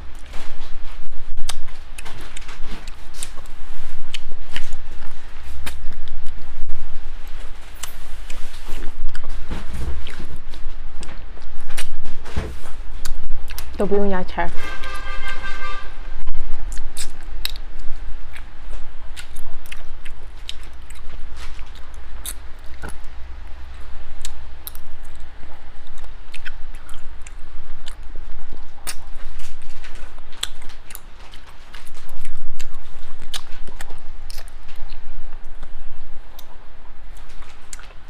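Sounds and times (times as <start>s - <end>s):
person chewing and sucking: 0.0s - 12.1s, 12.8s - 13.8s, 16.5s - 36.6s.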